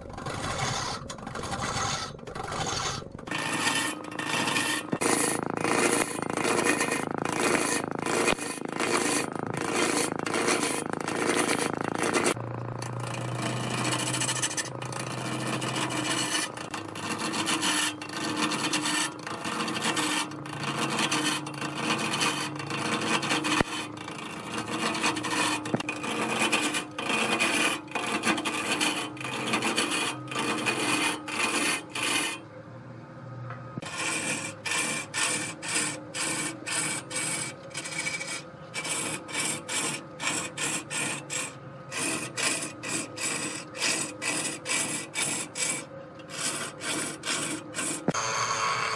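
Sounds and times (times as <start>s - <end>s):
chisel rasping on spinning wood: 0.0s - 32.4s, 33.8s - 48.2s
wood lathe running: 0.0s - 32.4s, 33.8s - 48.9s.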